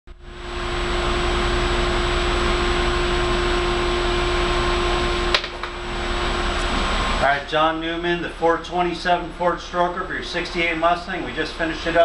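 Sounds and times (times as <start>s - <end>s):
machine hiss and hum: 0.1s - 12.0s.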